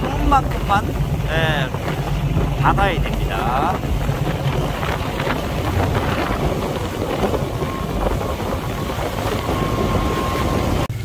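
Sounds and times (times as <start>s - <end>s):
boat engine rumbling: 0.0s - 11.0s
water rushing past hull: 0.0s - 11.0s
wind buffeting microphone: 0.0s - 11.0s.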